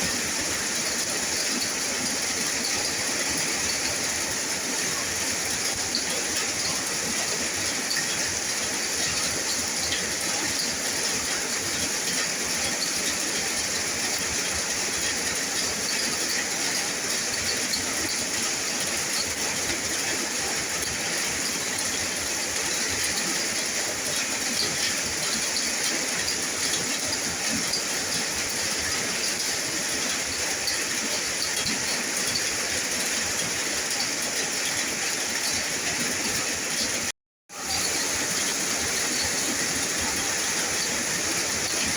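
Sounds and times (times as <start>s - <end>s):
steady rain: 0.0s - 41.9s.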